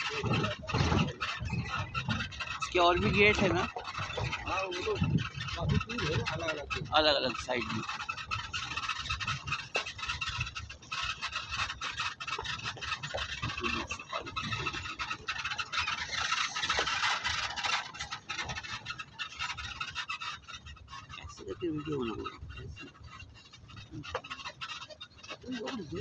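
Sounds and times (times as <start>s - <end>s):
jeep rattling on rough track: 0.0s - 26.0s.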